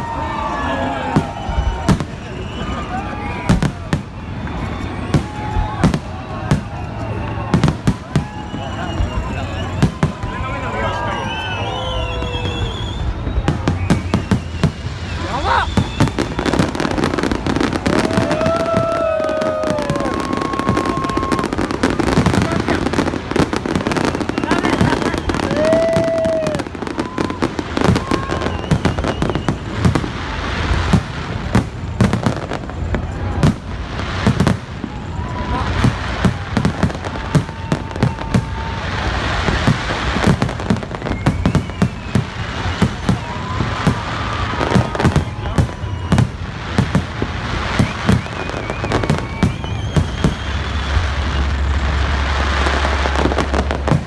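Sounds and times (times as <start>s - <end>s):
continuous hiss: 0.0s - 54.0s
fireworks bursting and crackling: 0.0s - 54.0s
whistling fireworks: 0.0s - 54.0s.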